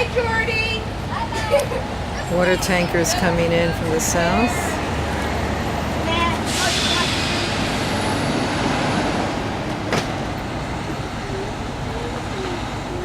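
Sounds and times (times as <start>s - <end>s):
trucks driving past: 0.0s - 13.0s.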